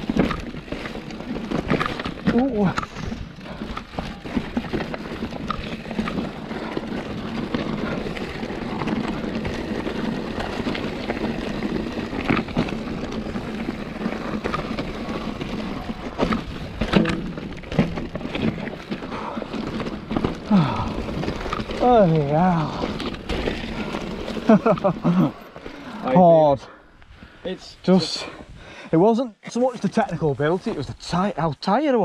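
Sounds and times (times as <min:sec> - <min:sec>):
tyres rumbling over stones: 0:00.0 - 0:26.6
bike rattling: 0:00.0 - 0:28.9.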